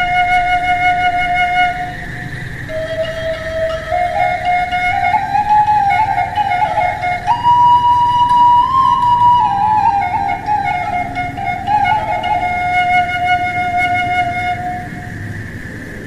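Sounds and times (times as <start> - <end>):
slow flute melody: 0.0 - 15.3.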